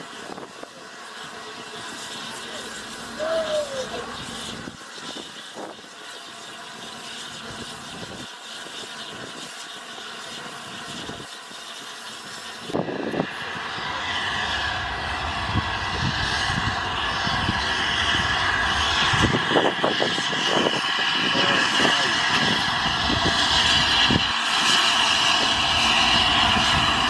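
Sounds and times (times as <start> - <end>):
hiss of steam: 0.0 - 27.0.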